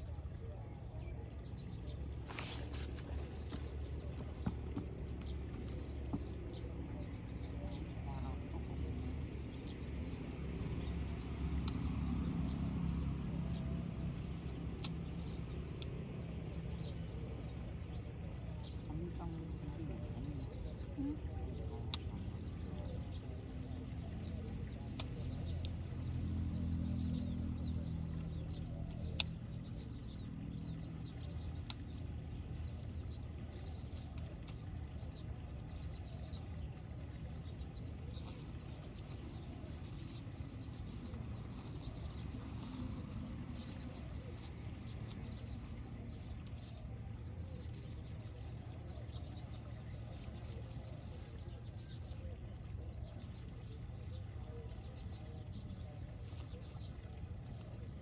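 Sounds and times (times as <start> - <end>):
low steady hum: 0.0 - 58.0
small birds chirping: 0.0 - 58.0.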